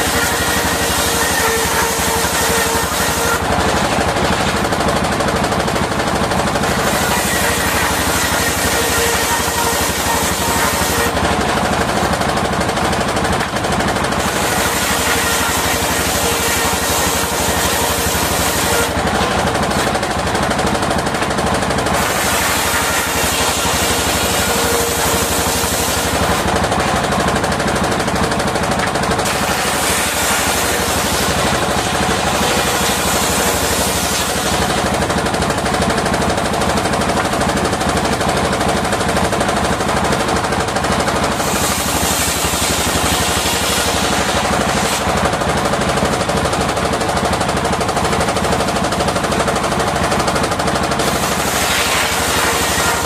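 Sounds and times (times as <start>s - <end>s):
circular sawmill cutting timber: 0.0s - 53.0s.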